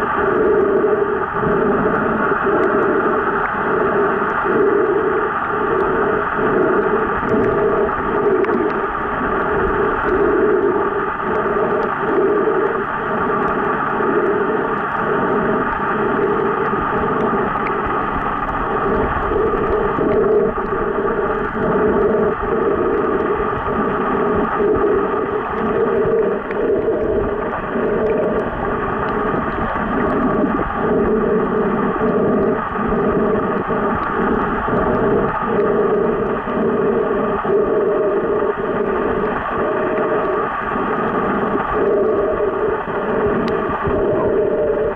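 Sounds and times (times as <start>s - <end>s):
muffled underwater rushing: 0.0s - 44.9s.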